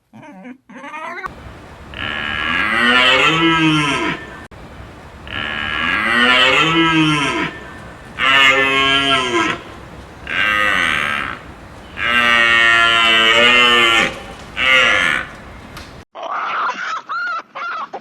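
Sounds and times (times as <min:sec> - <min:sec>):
cow mooing: 0:01.5 - 0:16.0.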